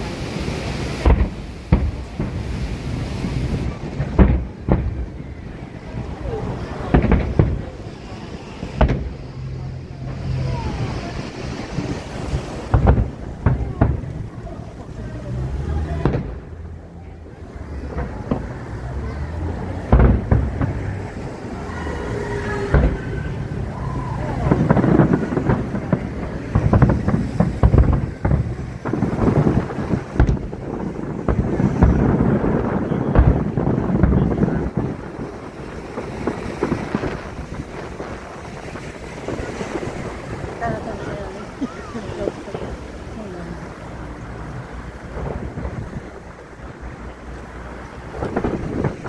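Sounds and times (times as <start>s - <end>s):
fireworks bangs: 0.0s - 49.0s
wind noise on microphone: 0.0s - 49.0s
low rumble: 1.9s - 49.0s.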